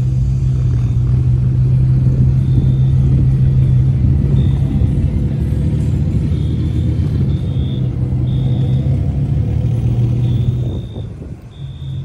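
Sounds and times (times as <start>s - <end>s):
sports car engine low drone: 0.0s - 12.0s.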